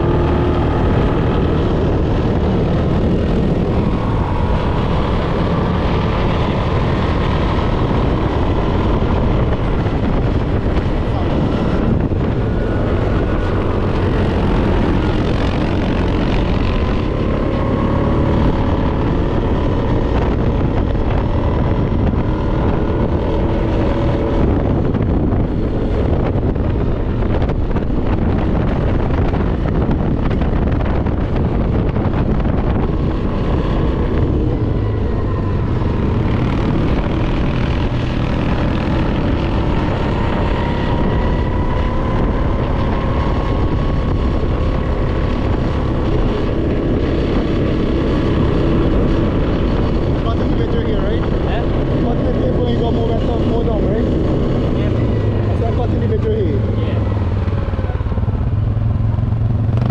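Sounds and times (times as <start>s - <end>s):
off-road vehicle engine running: 0.0s - 59.9s
wind rushing over microphone: 0.0s - 59.9s.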